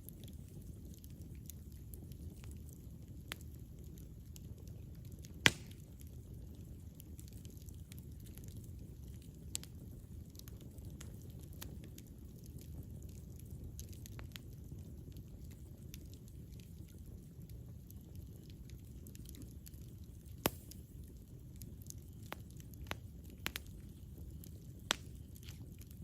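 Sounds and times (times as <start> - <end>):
campfire rumbling: 0.0 - 26.0
wood crackling and popping: 0.0 - 26.0.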